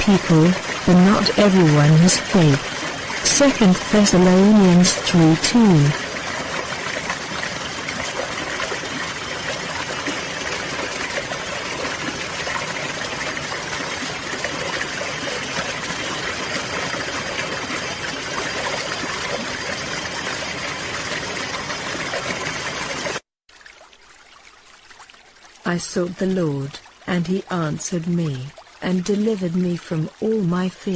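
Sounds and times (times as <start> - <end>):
stream flowing and trickling: 0.0 - 30.9.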